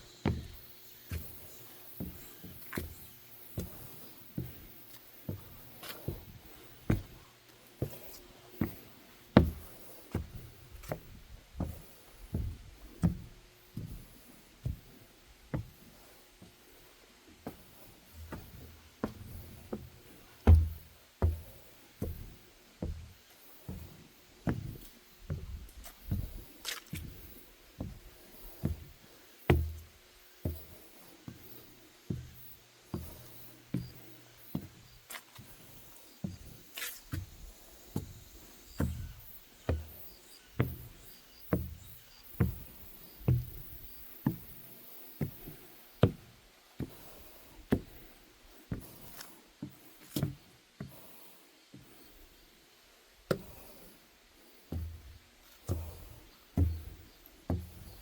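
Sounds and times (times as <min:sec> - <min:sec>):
footsteps on wooden boardwalk: 0:00.0 - 0:52.4, 0:53.2 - 0:58.0.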